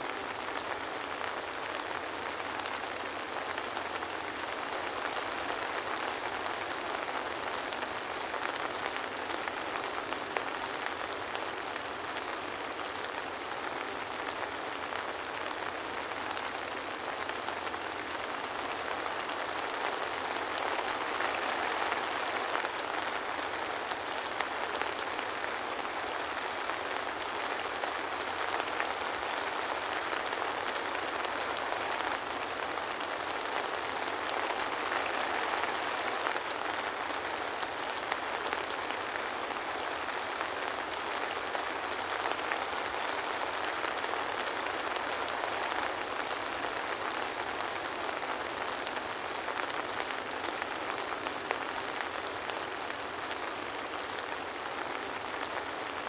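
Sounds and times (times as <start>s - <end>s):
soft rain falling: 0.0s - 56.0s.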